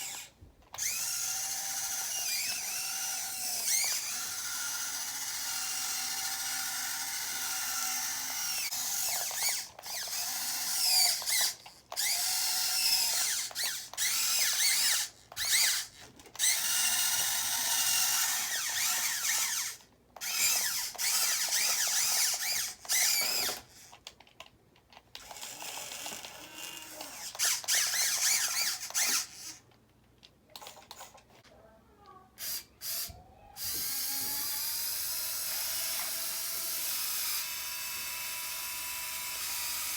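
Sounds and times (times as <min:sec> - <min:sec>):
small electric motors whining: 0:00.0 - 0:24.0, 0:25.2 - 0:29.6, 0:32.4 - 0:39.9.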